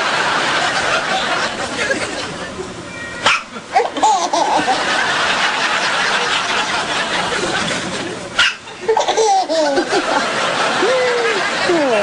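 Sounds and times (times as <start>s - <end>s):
people laughing: 0.0s - 2.8s, 3.5s - 12.0s.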